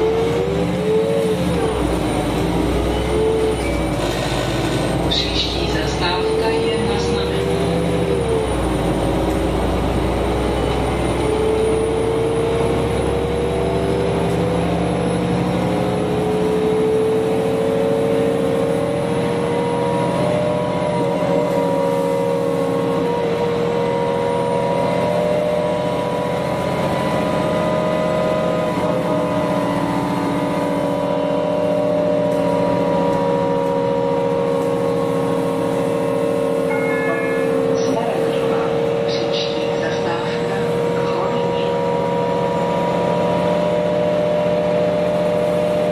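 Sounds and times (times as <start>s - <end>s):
bus engine whining: 0.0s - 45.9s.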